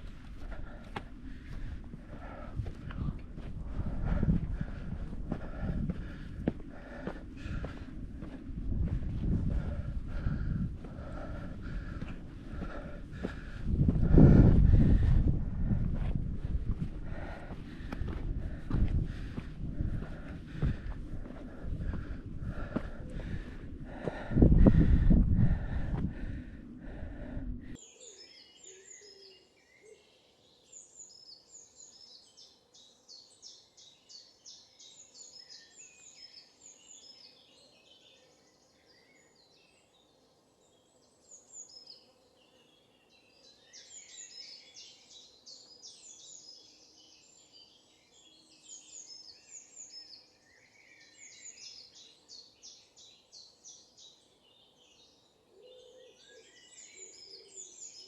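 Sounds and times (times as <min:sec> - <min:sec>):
faint songbirds chirping and trilling: 0:00.0 - 0:58.0.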